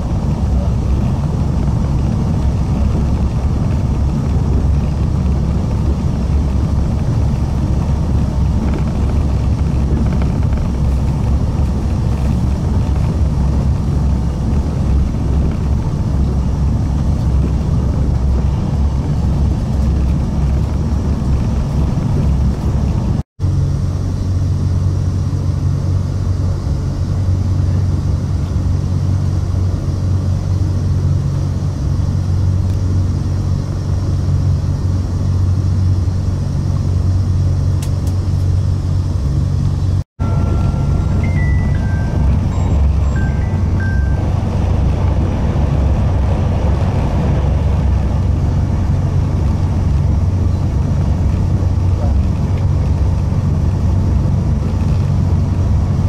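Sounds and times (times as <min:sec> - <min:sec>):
low hum: 0:00.0 - 0:56.0
train wheels rumbling on track: 0:00.0 - 0:56.0.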